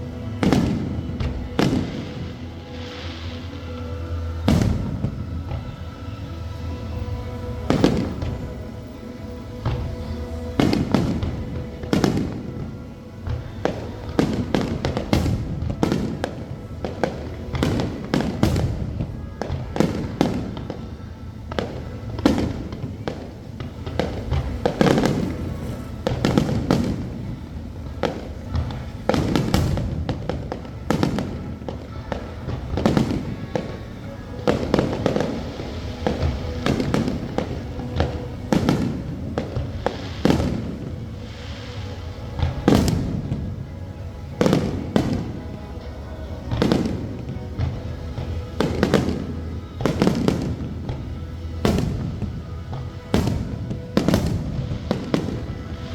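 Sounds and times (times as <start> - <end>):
aerial fireworks bursting: 0.0 - 55.9
music playing: 0.0 - 55.9.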